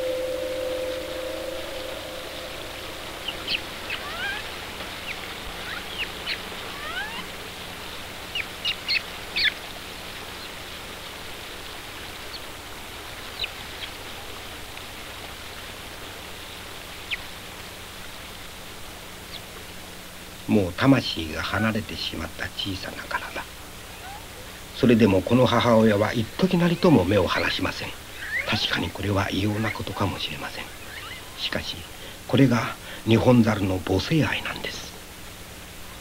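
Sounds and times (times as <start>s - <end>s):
small birds chirping: 0.0s - 14.6s, 16.2s - 19.8s, 22.7s - 34.9s
steady hiss: 0.0s - 36.0s.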